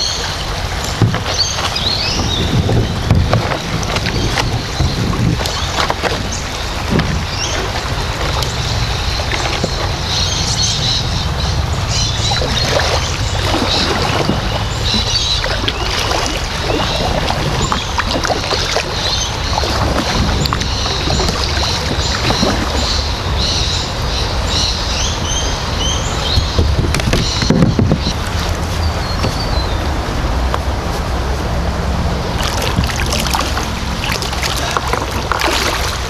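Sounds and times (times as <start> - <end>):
paddle strokes splashing water: 0.0 - 24.1, 26.3 - 31.1, 32.1 - 36.0
wind rumble on microphone: 0.0 - 36.0.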